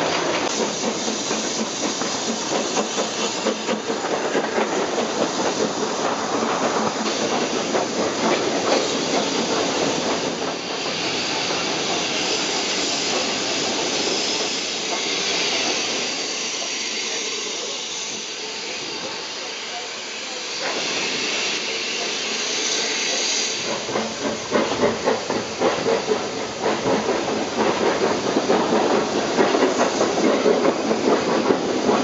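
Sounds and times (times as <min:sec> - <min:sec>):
steam hiss: 0:00.0 - 0:32.0
steam train wheels clattering: 0:00.0 - 0:32.0.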